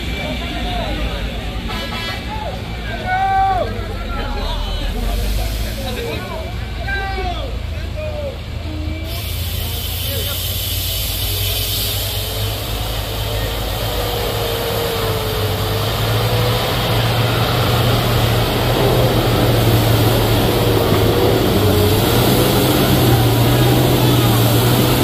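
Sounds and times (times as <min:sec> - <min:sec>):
heavy vehicle engine droning: 0:00.0 - 0:25.0
high engine whine: 0:02.6 - 0:25.0.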